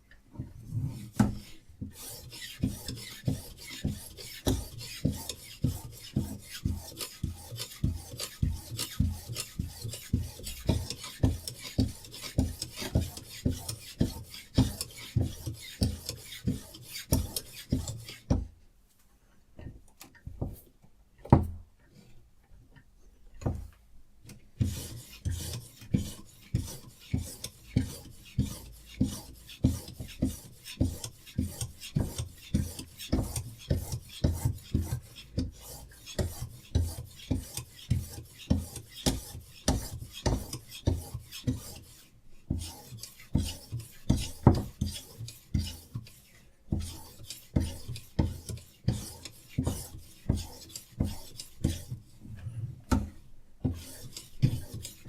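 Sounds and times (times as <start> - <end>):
sharpening stone rasping on knife: 1.4 - 18.3, 24.7 - 52.0, 53.8 - 55.0.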